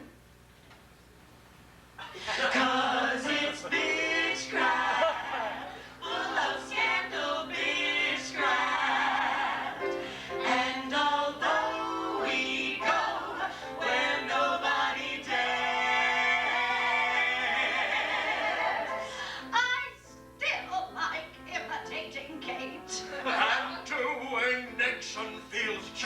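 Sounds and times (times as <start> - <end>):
singers performing a show tune: 2.0 - 20.0, 21.6 - 26.0
piano accompaniment: 2.4 - 19.5, 20.1 - 26.0.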